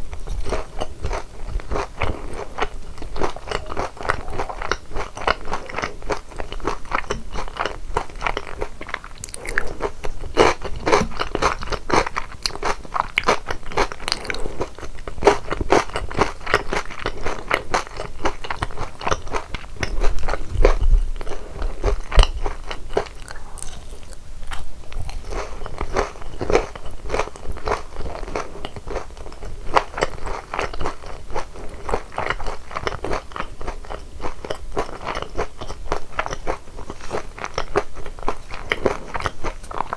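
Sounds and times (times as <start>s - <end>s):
crunching fried chicken: 0.1s - 39.9s.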